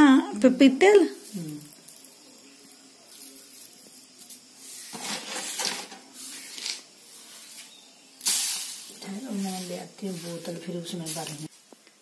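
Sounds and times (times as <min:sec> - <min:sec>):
hands sweeping seeds on concrete: 0:01.1 - 0:11.6.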